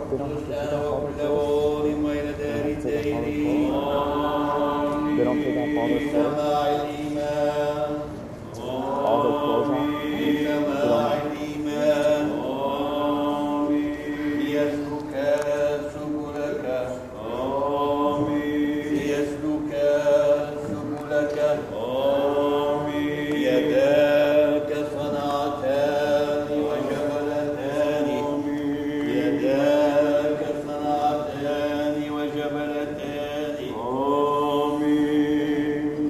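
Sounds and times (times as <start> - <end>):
liturgical chant: 0.0 - 36.0.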